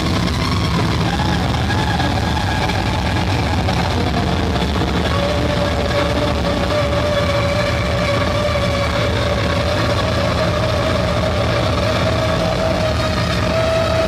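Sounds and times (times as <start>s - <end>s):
distorted electric guitar drone: 0.0s - 14.0s
steady held tone: 0.0s - 14.0s
wavering tone: 0.0s - 14.0s.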